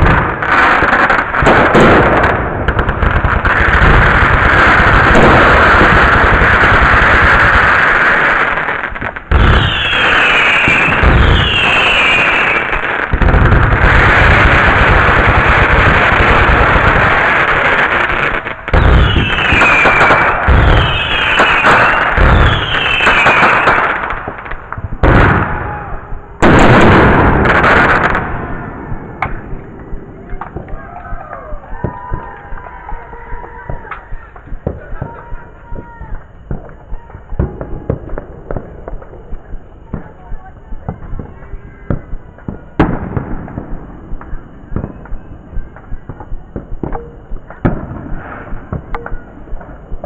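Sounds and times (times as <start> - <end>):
fireworks booming: 0.0 - 50.0
fireworks crackling: 0.0 - 50.0.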